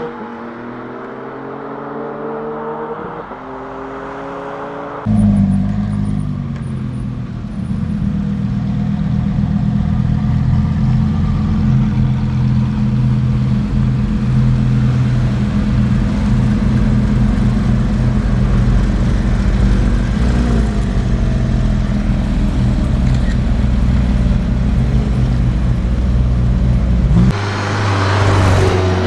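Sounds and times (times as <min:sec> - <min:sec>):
car engine running low revs: 0:05.0 - 0:29.0.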